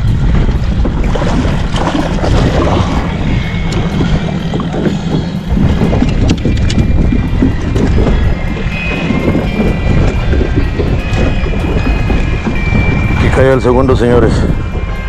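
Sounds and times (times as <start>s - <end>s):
knocks and rattles on aluminum boat: 0.0s - 15.0s
wind buffeting microphone: 0.0s - 15.0s.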